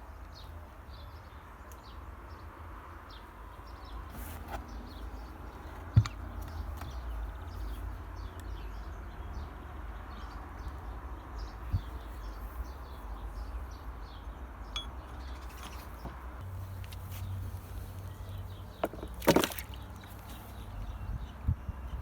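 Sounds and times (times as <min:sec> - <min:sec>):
small birds chirping: 0:00.2 - 0:22.0.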